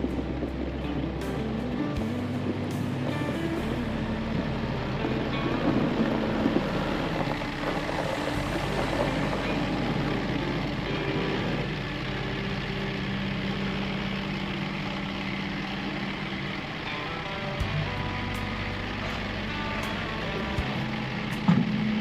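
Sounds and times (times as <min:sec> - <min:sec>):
background music: 0:00.0 - 0:22.0
vehicle engine droning: 0:00.0 - 0:22.0.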